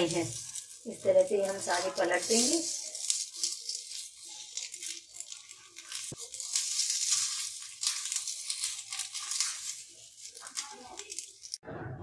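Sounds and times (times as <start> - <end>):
utensils scraping a pan: 0.0 - 11.6.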